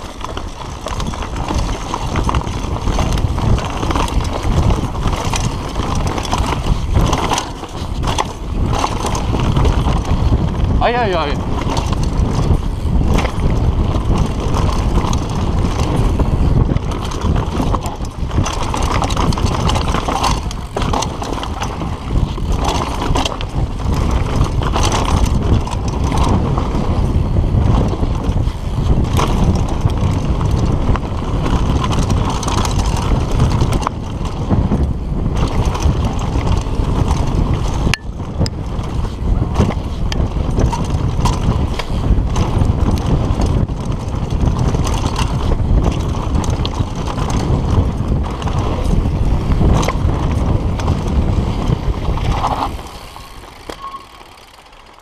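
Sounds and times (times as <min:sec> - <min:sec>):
bike knocks and rattles: 0:00.0 - 0:55.0
tyres rumbling over dirt: 0:00.0 - 0:55.0
wind buffeting microphone: 0:00.0 - 0:55.0.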